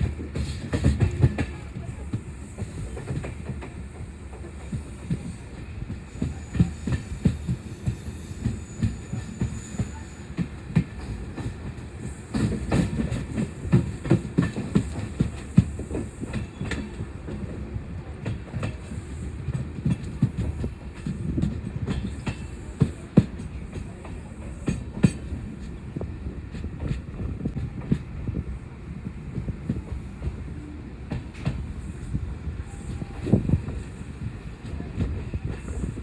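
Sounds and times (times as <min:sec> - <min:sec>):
train low rumble: 0:00.0 - 0:36.0
train wheels clacking: 0:00.0 - 0:36.0.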